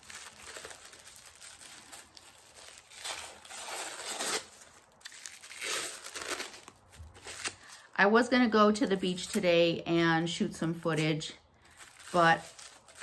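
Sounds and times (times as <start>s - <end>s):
wrapping crinkling and rustling: 0.0s - 8.0s, 10.2s - 13.0s.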